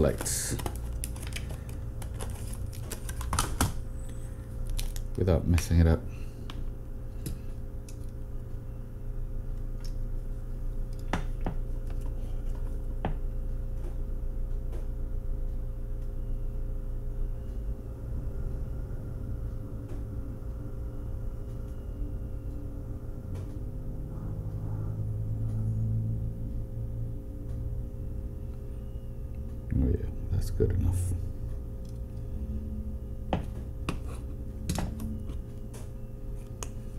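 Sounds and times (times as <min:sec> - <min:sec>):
low background hum: 0:00.0 - 0:36.9.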